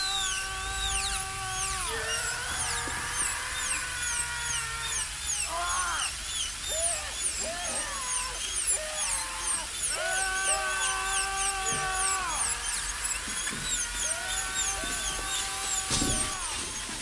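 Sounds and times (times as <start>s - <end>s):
dental drill whining: 0.0s - 17.0s.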